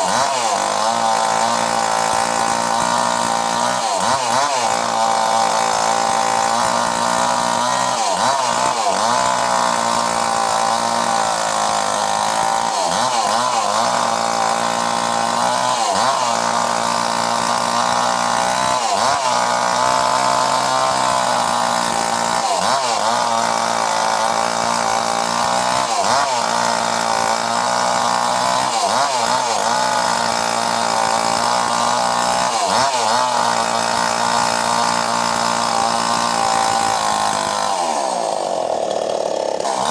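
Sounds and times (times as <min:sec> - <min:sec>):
mini chainsaw running: 0:00.0 - 0:39.9.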